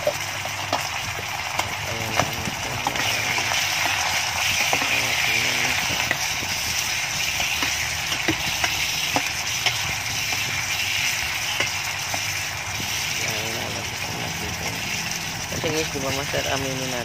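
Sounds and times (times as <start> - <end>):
ladle stirring pot: 0.0 - 15.7
meat sizzling in a pot: 0.0 - 17.0.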